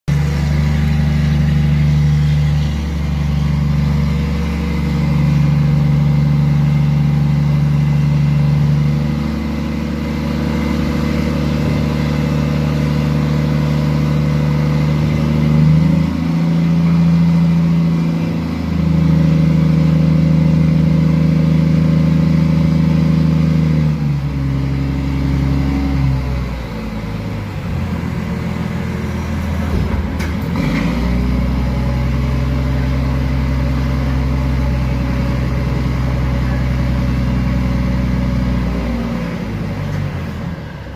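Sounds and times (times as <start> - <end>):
heavy truck engine running: 0.1 - 40.9.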